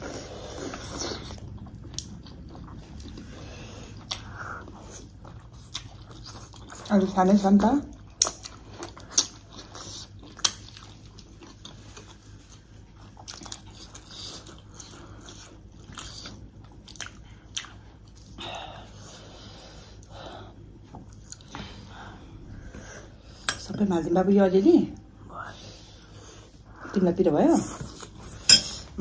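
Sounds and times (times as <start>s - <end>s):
person chewing food: 0.0s - 6.9s, 7.9s - 23.4s, 27.8s - 29.0s.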